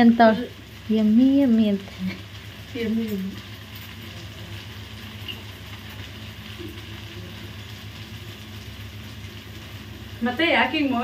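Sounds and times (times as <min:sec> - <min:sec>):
rice sizzling in a pan: 0:00.0 - 0:11.0.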